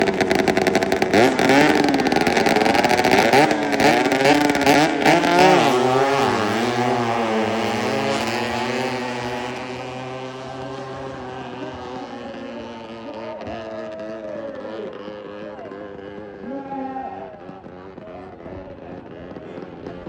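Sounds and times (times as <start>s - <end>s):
speedboat engine running loud: 0.0s - 20.0s.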